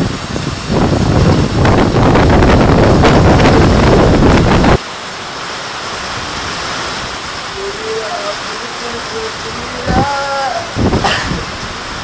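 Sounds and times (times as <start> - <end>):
wind buffeting microphone: 0.0 - 4.8, 6.2 - 12.0
steady hiss of wind: 0.0 - 12.0.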